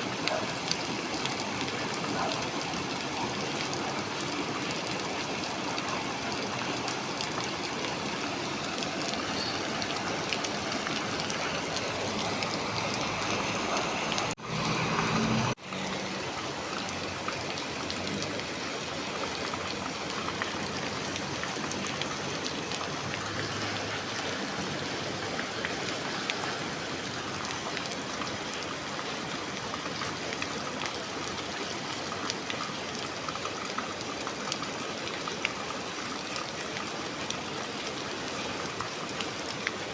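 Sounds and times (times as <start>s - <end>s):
rainfall hiss: 0.0s - 39.9s.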